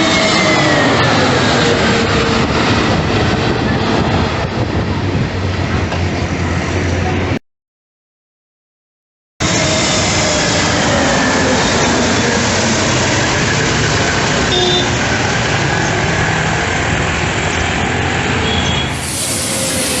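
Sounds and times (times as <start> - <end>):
jet engines roaring: 0.0 - 7.3, 9.4 - 20.0.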